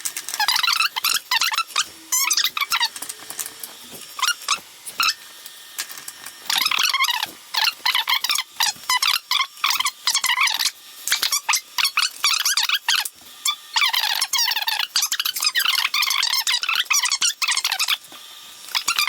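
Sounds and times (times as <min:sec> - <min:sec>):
printer stepper motors squeaking: 0:00.3 - 0:05.3, 0:06.3 - 0:18.0.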